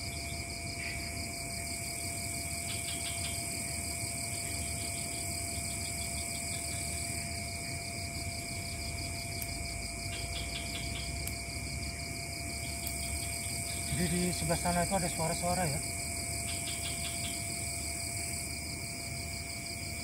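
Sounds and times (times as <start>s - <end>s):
crickets trilling: 0.0s - 20.0s
insect rapid pulses: 0.0s - 20.0s.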